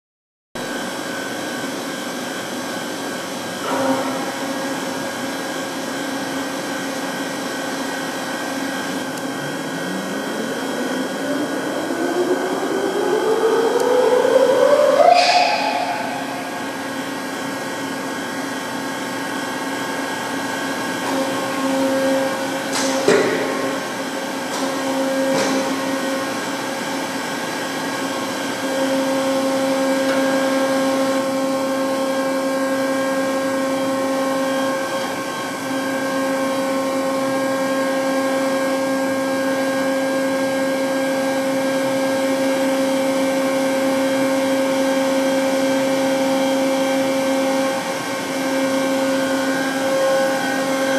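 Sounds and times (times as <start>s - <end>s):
grinder motor hum and whine: 0.6s - 50.9s.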